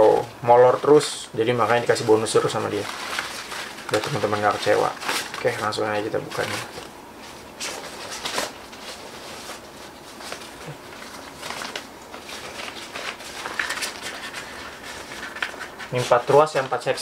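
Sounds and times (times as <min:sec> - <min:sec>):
nylon fabric rustling: 0:00.7 - 0:17.0.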